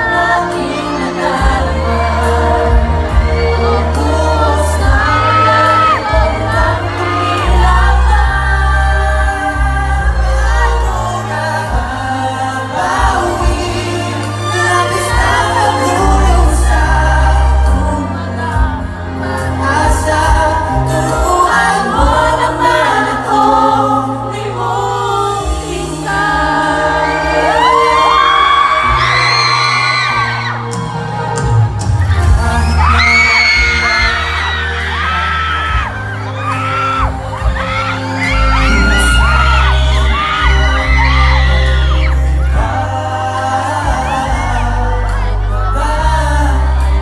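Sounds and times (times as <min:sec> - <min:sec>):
backing track with deep bass: 0:00.0 - 0:47.0
male vocal group singing: 0:00.0 - 0:47.0.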